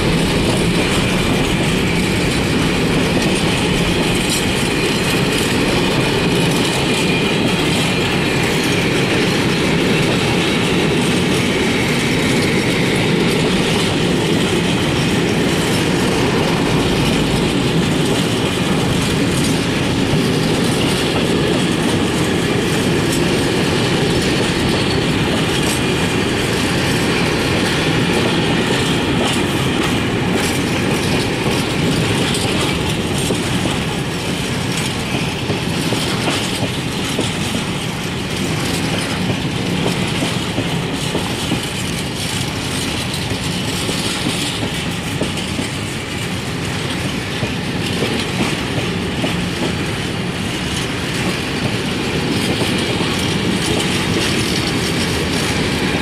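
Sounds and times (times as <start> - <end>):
freight train wheels rolling on rail: 0.0 - 56.0.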